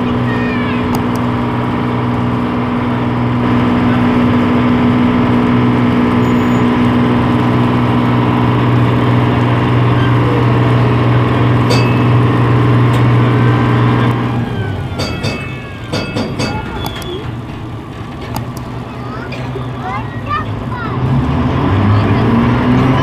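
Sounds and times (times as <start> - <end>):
boat diesel engine droning: 0.0 - 23.0.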